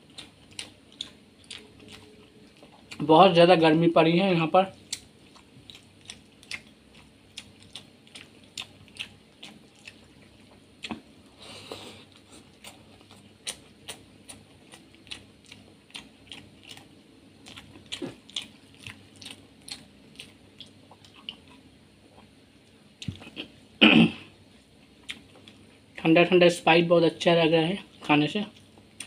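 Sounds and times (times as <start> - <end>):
wet chewing with mouth clicks: 0.0 - 3.1, 4.8 - 23.6, 24.6 - 26.0, 27.9 - 29.0.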